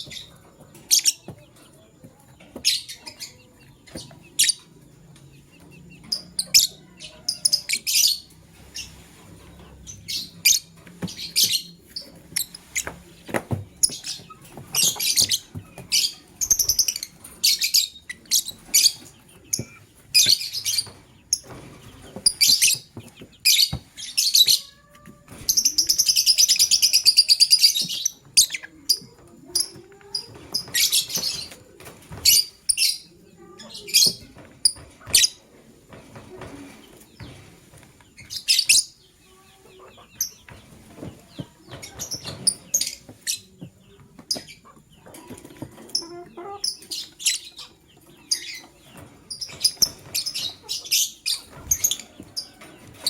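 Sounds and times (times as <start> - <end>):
lovebirds chirping: 0.0 - 53.0
lovebirds rapid chattering: 0.0 - 53.0.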